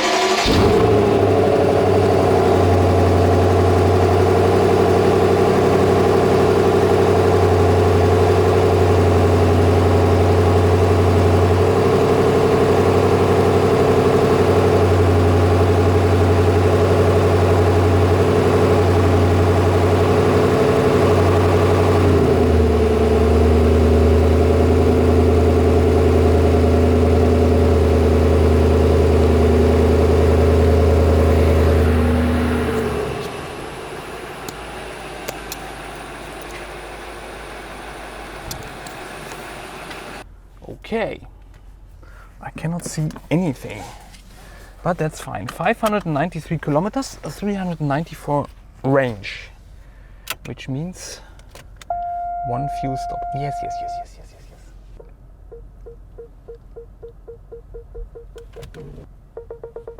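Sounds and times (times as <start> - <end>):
car engine idling: 0.0 - 40.5, 51.1 - 59.6.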